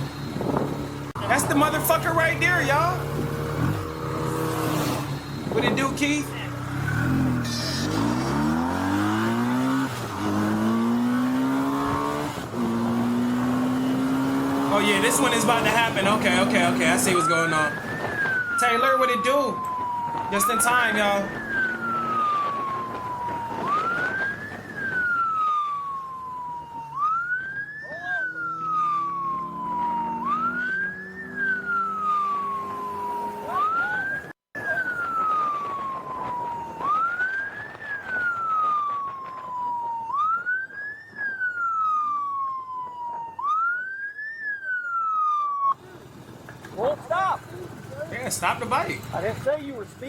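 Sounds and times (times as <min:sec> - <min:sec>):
police siren wailing: 0:00.0 - 0:45.8.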